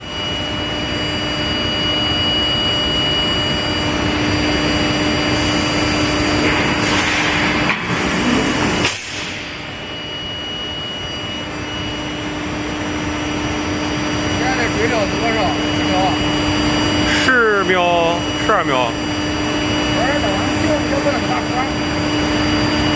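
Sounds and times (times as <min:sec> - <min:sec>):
low machine hum: 0:00.0 - 0:22.9
machine whine: 0:00.0 - 0:22.9.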